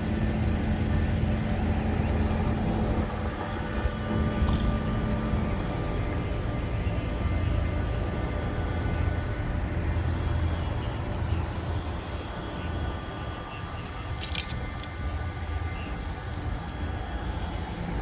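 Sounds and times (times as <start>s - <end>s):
faint whines: 0.0s - 18.0s
low engine rumble: 0.0s - 18.0s.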